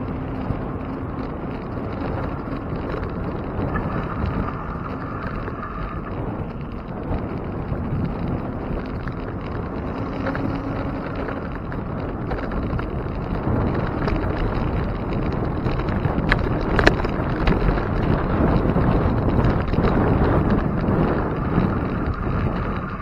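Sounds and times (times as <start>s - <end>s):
bicycle road noise: 0.0s - 23.0s
wind rush on microphone: 0.0s - 23.0s.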